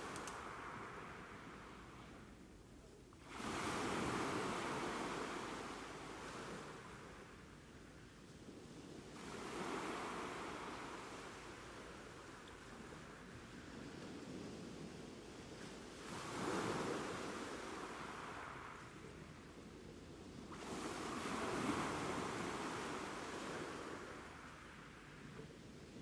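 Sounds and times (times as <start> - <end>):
ocean waves breaking on shore: 0.0 - 2.4, 3.2 - 26.0.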